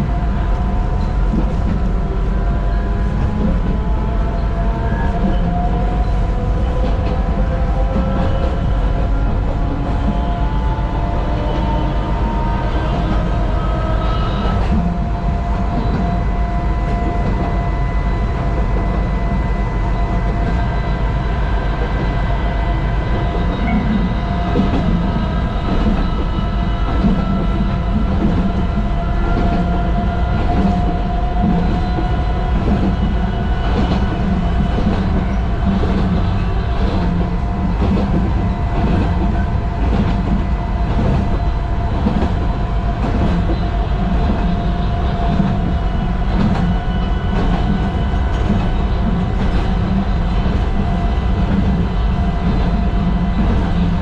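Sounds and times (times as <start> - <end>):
wheels rumbling on rail: 0.0 - 54.0
rail joint clicks: 0.2 - 54.0.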